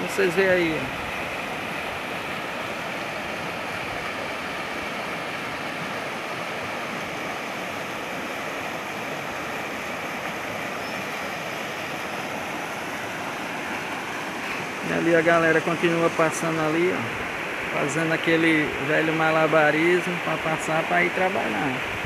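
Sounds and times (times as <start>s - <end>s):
floodwater rushing through pipes: 0.0s - 22.0s.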